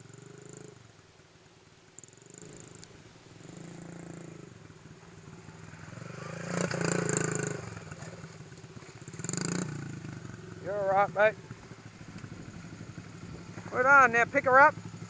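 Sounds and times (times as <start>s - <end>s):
mini dirt bike engine running: 0.0s - 0.8s, 2.0s - 15.0s.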